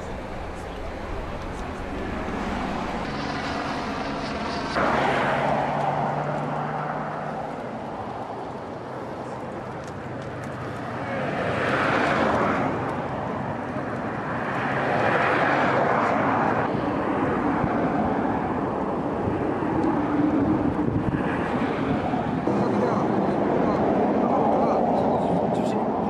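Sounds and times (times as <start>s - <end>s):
road traffic roar: 0.0s - 26.0s.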